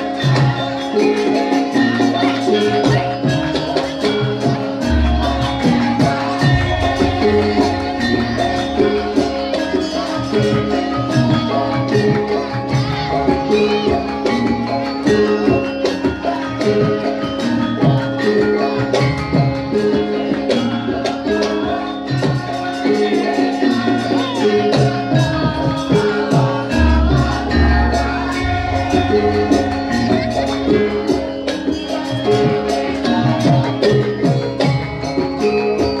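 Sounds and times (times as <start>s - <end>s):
jingling percussion: 0.0s - 36.0s
metallophones ringing melody: 0.0s - 36.0s.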